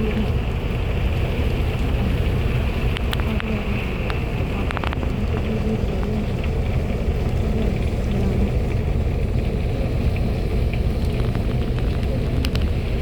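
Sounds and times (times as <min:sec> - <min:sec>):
heavy rain falling: 0:00.0 - 0:13.0
sharp drip clicks: 0:01.2 - 0:13.0.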